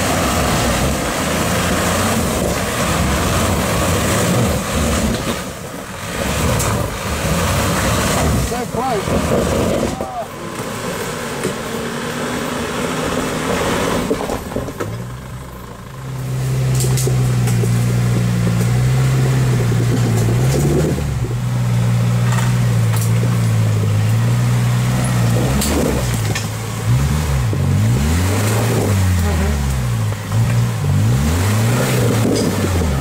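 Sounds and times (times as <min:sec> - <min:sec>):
off-road vehicle engine crawling: 0:00.0 - 0:33.0.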